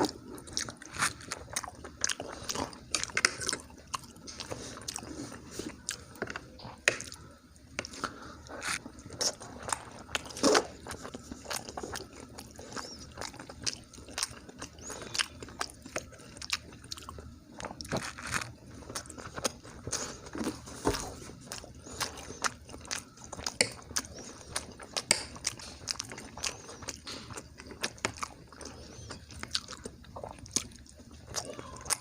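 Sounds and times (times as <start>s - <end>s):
person chewing with mouth smacks: 0.0s - 32.0s.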